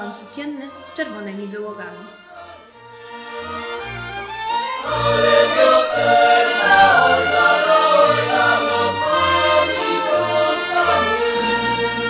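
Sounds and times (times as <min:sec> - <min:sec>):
choir singing with instruments: 0:02.1 - 0:12.0.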